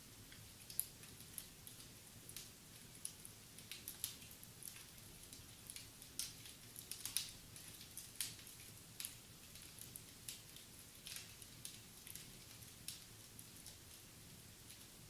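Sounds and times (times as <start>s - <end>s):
soft fire hiss: 0.0s - 15.0s
wood fire crackling and popping: 0.1s - 15.0s.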